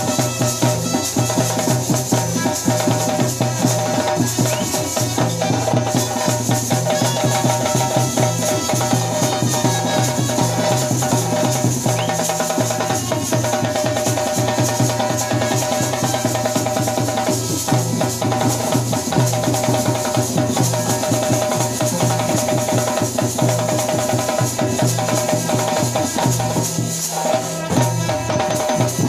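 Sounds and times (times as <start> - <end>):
fast loud drumming: 0.0 - 29.0
small hand cymbals ringing: 0.0 - 29.0.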